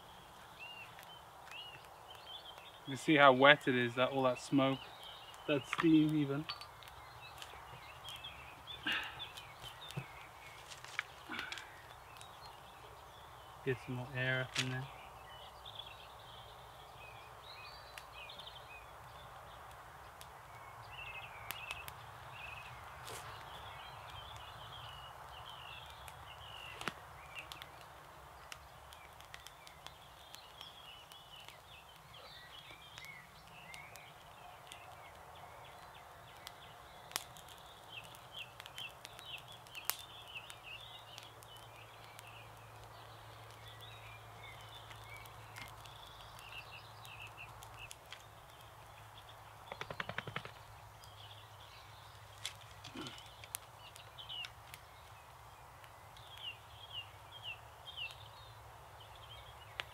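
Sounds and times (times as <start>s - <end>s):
birds singing: 0.0s - 59.9s
campfire cracking and snapping: 0.0s - 59.9s.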